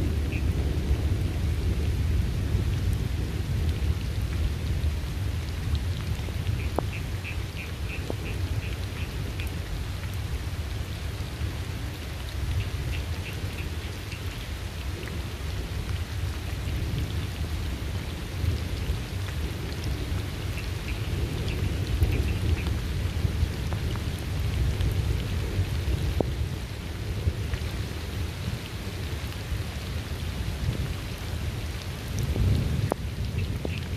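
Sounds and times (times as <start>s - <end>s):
rolling thunder rumble: 0.0s - 12.0s, 14.9s - 33.9s
steady rain falling: 0.0s - 33.9s.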